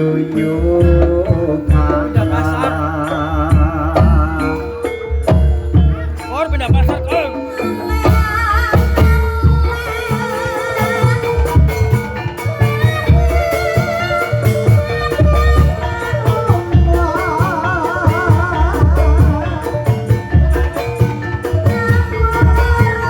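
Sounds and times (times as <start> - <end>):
drum strokes: 0.0 - 23.0
metallophones: 0.0 - 23.0
ornamented melody line: 0.0 - 23.0.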